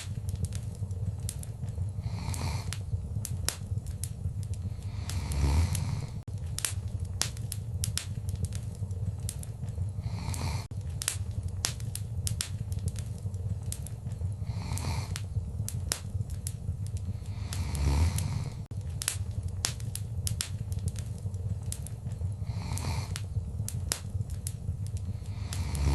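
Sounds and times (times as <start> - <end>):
hissing flare of fire: 0.0 - 25.9
low rumble of flames: 0.0 - 25.9
wood fire crackling: 0.0 - 25.9.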